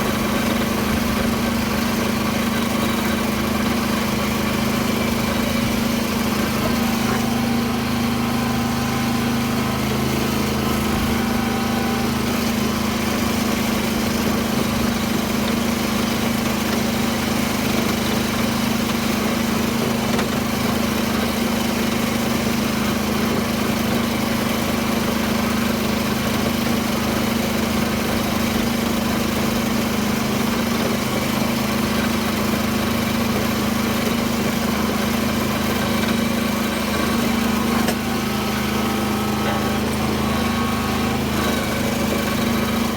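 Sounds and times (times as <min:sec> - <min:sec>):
tractor engine under load: 0:00.0 - 0:42.9.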